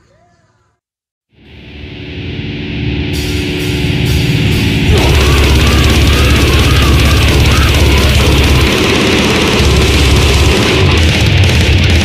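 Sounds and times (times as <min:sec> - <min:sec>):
extreme metal music: 0:01.4 - 0:12.0.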